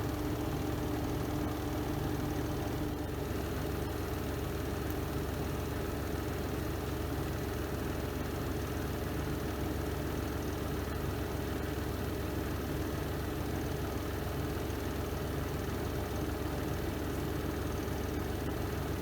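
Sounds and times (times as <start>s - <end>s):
washing machine spinning hum: 0.0s - 19.0s.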